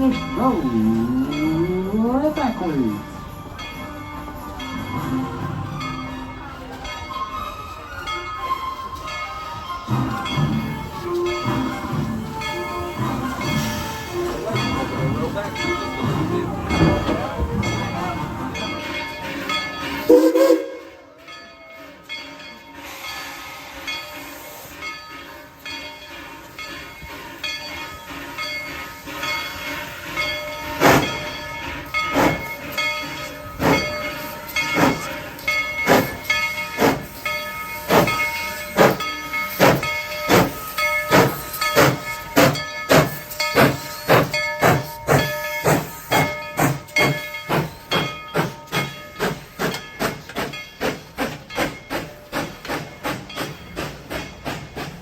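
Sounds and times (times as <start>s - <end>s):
steam locomotive hissing: 0.0s - 55.0s
steam locomotive chuffing: 6.7s - 55.0s.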